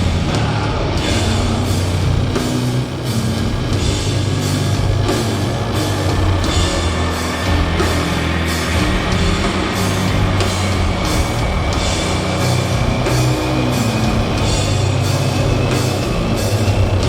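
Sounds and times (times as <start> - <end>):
cymbal crashes: 0.0 - 17.0
doom metal band playing: 0.0 - 17.0.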